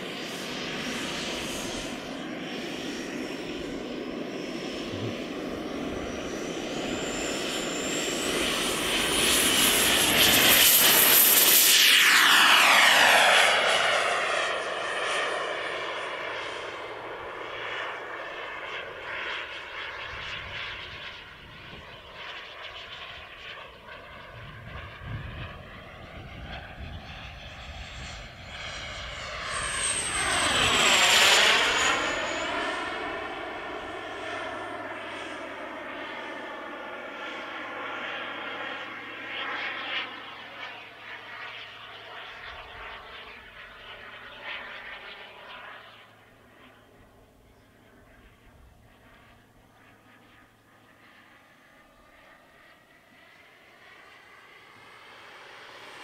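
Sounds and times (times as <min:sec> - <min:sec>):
jet turbine engine whine: 0:00.0 - 0:56.0.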